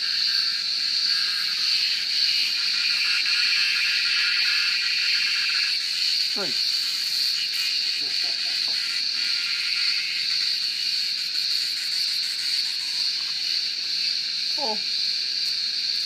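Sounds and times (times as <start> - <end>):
cicadas singing: 0.0 - 16.0.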